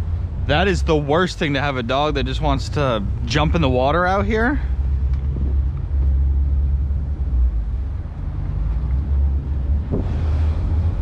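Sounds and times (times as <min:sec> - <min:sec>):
outboard engines rumbling: 0:00.0 - 0:11.0.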